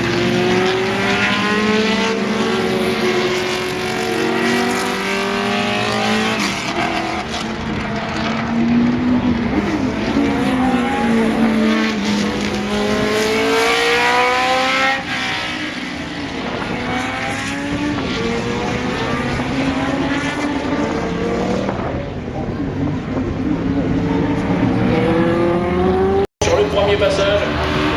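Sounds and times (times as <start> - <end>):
racing cars driving past: 0.0 - 27.9.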